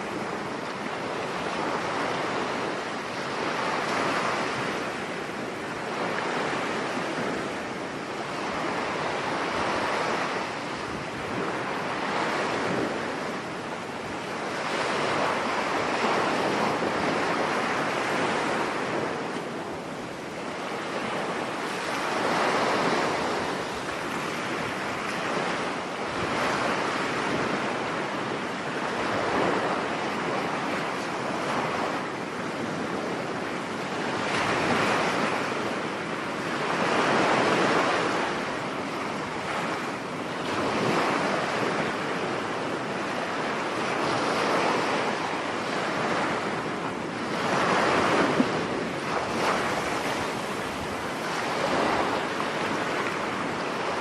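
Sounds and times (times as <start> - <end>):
steady wind: 0.0 - 54.0
storm surf breaking on beach: 0.0 - 54.0.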